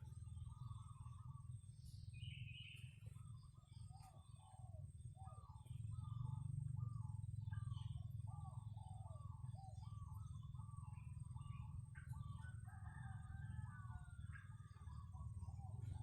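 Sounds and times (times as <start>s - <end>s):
garden birds calling: 0.0s - 16.0s.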